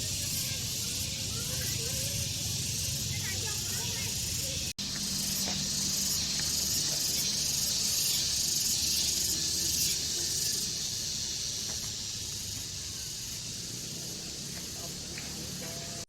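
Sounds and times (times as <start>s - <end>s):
insect chorus hissing: 0.0s - 16.0s.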